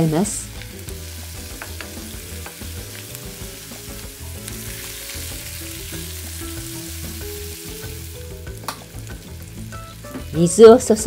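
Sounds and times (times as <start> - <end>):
vegetables sizzling in butter: 0.0 - 11.0.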